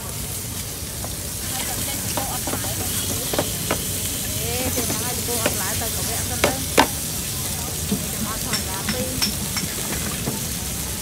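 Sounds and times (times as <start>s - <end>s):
food sizzling: 0.0s - 11.0s.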